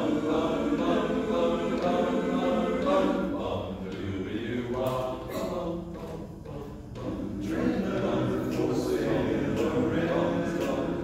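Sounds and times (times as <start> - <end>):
men's chorus singing a cappella: 0.0 - 11.0.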